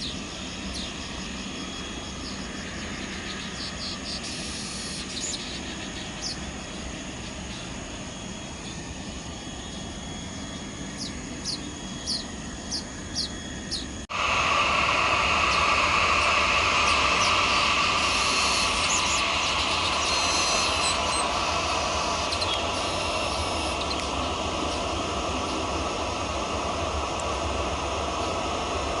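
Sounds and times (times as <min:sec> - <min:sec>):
jet airliner engines: 0:00.0 - 0:29.0.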